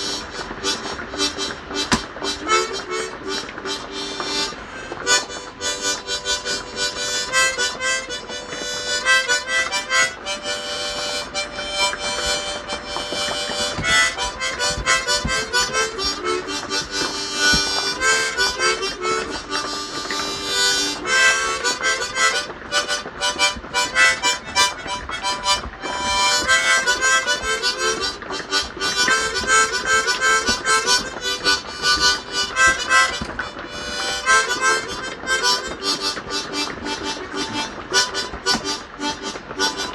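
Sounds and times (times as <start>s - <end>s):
solo harmonica: 0.0s - 39.9s.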